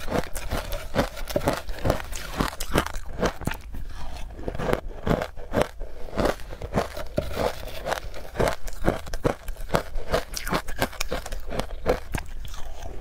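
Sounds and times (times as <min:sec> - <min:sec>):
crunching and chewing ice: 0:00.0 - 0:13.0
metal spoon scraping ice: 0:00.0 - 0:13.0.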